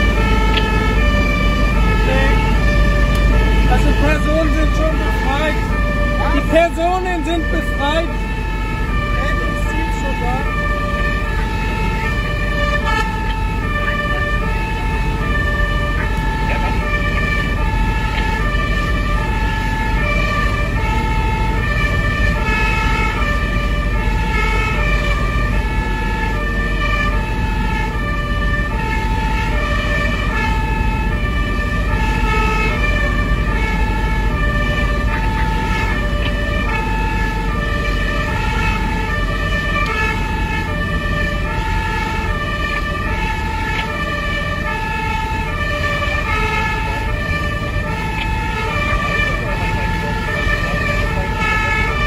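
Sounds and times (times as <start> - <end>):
two-tone fire engine siren: 0.0 - 52.0
vehicle engine and tyres rumbling: 0.0 - 52.0.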